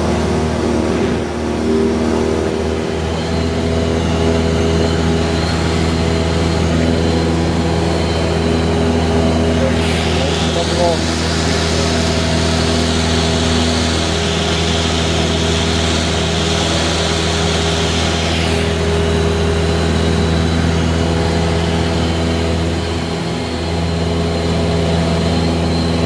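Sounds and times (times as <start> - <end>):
airplane engine and propeller droning: 0.0 - 26.0.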